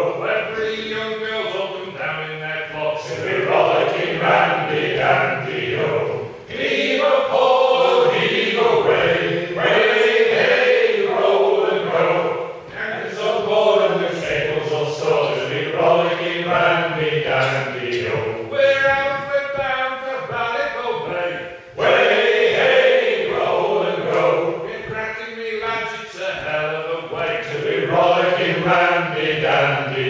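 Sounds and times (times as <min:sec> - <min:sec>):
men singing unaccompanied: 0:00.0 - 0:30.0.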